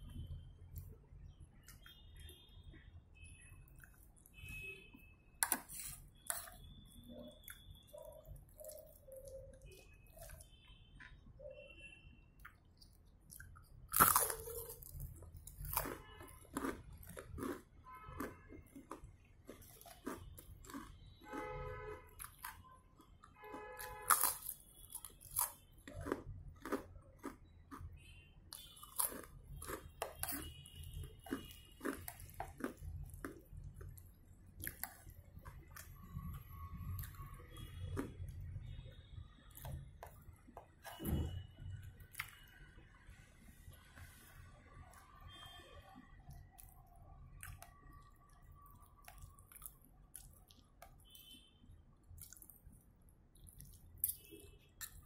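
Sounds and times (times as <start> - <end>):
person chewing: 5.4 - 11.2, 12.4 - 42.6, 44.8 - 51.4, 52.1 - 55.0.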